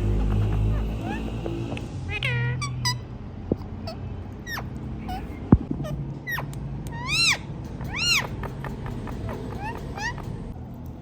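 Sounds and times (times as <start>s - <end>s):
parakeet squeaks and calls: 0.0s - 10.5s.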